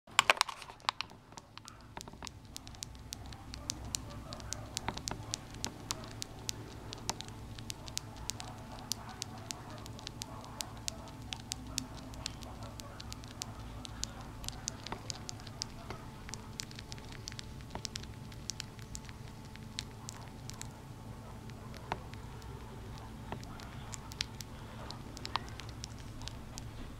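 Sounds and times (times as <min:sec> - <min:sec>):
hamster chewing clicks: 0:00.1 - 0:26.9
low steady hum: 0:00.1 - 0:26.9.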